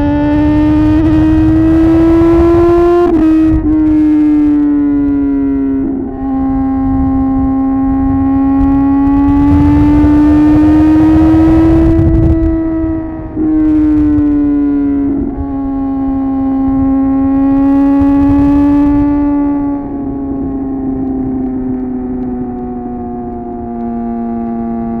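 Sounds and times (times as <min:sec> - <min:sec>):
motorcycle engine and exhaust: 0:00.0 - 0:25.0
wind on microphone: 0:00.0 - 0:25.0.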